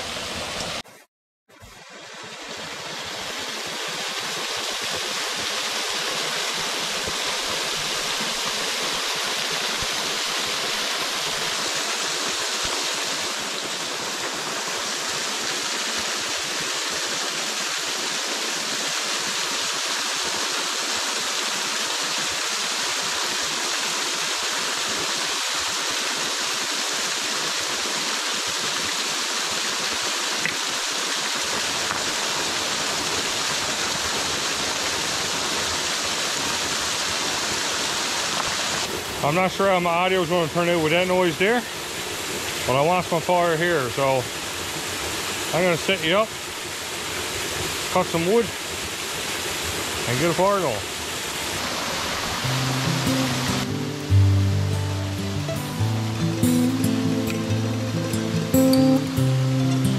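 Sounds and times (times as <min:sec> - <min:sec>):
waterfall rushing: 0:01.8 - 0:59.9.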